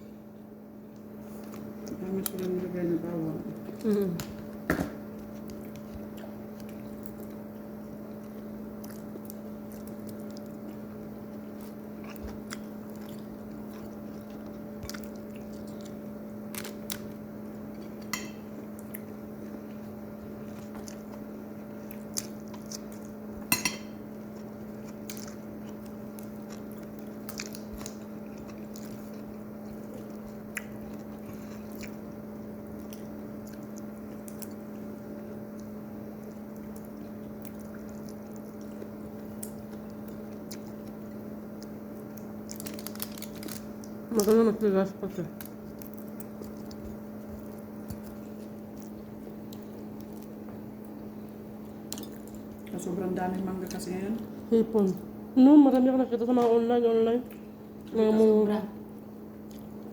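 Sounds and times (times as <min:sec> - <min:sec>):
low electrical hum: 0:00.0 - 0:59.9
people chewing food: 0:00.0 - 0:59.9.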